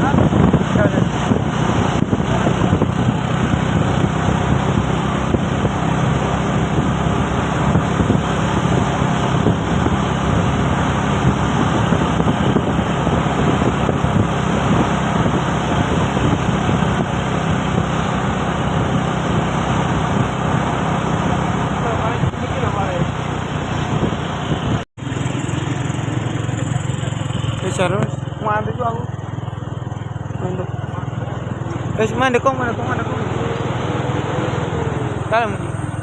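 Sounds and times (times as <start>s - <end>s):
road noise: 0.0s - 36.0s
truck diesel engine running: 0.0s - 36.0s.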